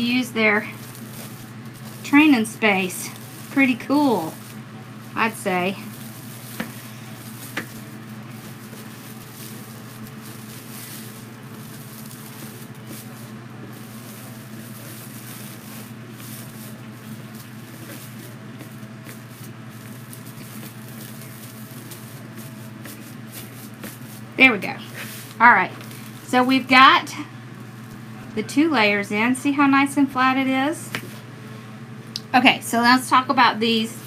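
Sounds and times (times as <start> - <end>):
foil mesh rustling and crinkling: 0.0 - 28.1
steady low hum: 0.0 - 34.0.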